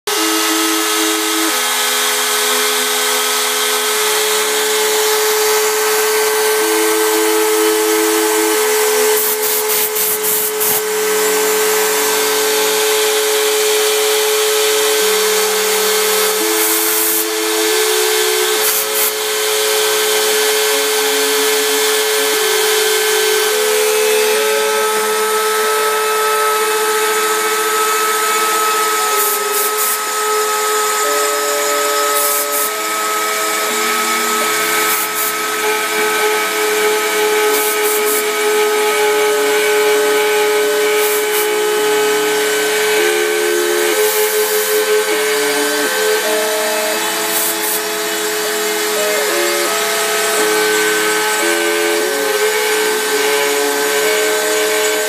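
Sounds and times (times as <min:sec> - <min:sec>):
cutting hiss: 0:00.1 - 0:55.0
spindle motor whine: 0:00.1 - 0:55.0
stepper motor tones: 0:00.1 - 0:55.0.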